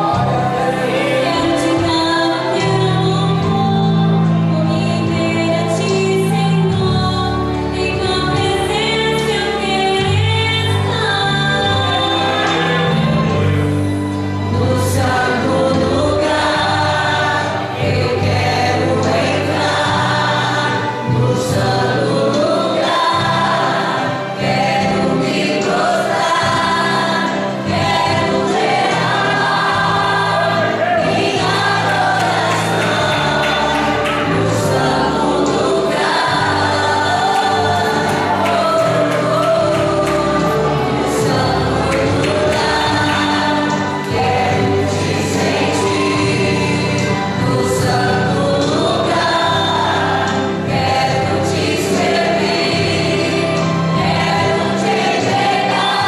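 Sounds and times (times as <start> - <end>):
held bass notes accompaniment: 0.0 - 56.0
women singing a hymn in unison: 0.0 - 56.0.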